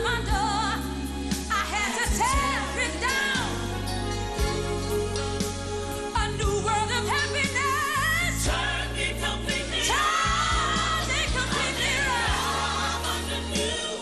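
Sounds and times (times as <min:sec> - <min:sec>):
woman singing: 0:00.0 - 0:03.9, 0:06.1 - 0:14.0
bass: 0:00.0 - 0:14.0.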